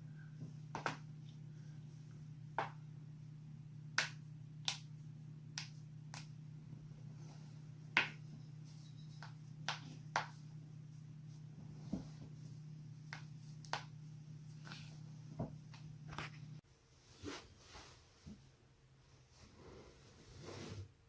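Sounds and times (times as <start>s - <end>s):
steady low hum: 0.0s - 20.1s.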